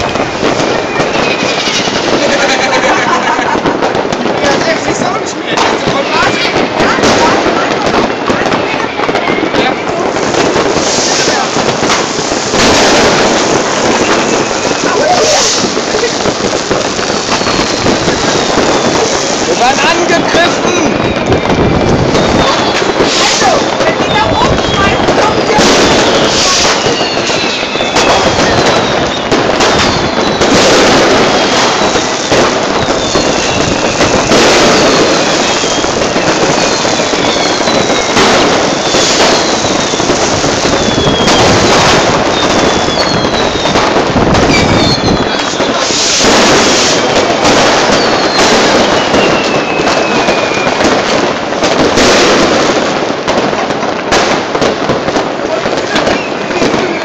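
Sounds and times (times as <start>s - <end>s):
descending firework whistles: 0.0s - 57.0s
fireworks crackling and banging: 0.0s - 57.0s.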